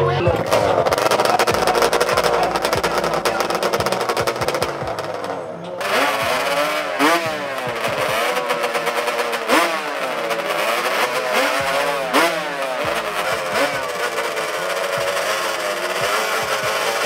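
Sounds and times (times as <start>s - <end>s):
engine revving in blips: 0.0s - 17.0s.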